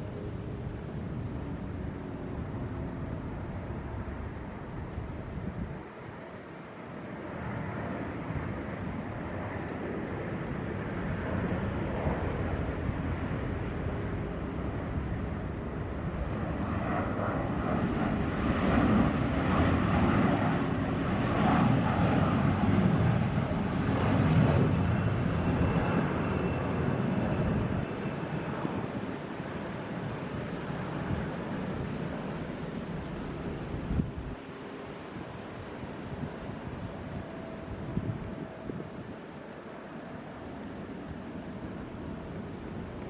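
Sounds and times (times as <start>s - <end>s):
aircraft rumble overhead: 0.0s - 43.0s.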